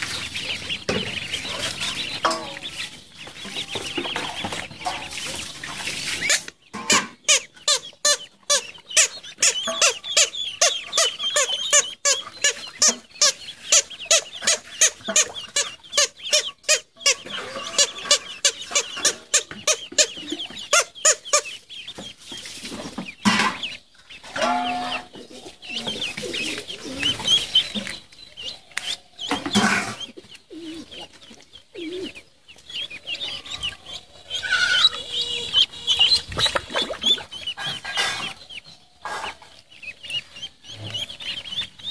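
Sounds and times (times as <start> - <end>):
ducklings peeping: 0.0 - 41.9.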